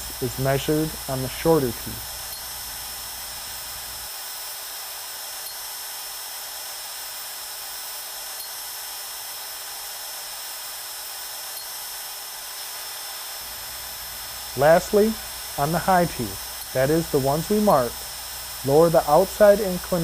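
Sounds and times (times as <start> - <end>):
grinder motor high whine: 0.0 - 20.0.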